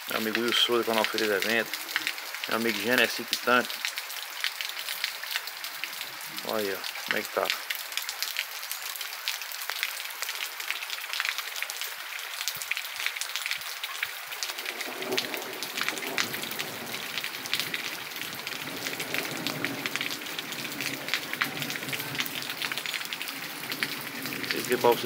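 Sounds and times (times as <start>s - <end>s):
rain pattering on pavement: 0.0s - 25.0s
runoff water flowing: 0.0s - 25.0s.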